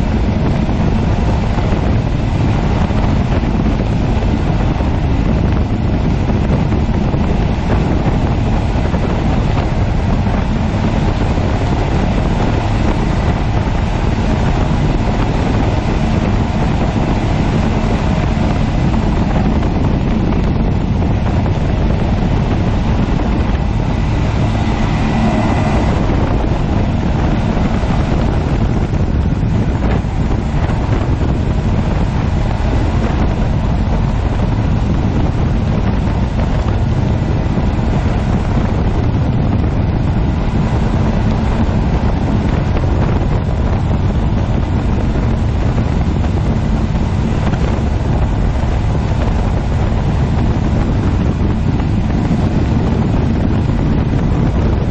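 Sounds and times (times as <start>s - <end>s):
outboard motors droning: 0.0s - 54.9s
rush of boat wake: 0.0s - 54.9s
wind buffeting microphone: 0.0s - 54.9s.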